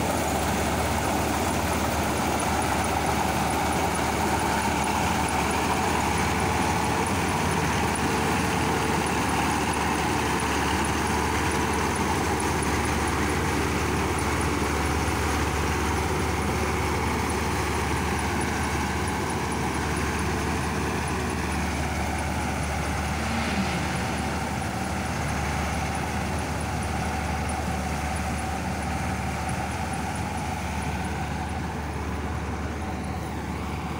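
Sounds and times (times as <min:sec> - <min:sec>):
combine harvester droning: 0:00.0 - 0:33.9.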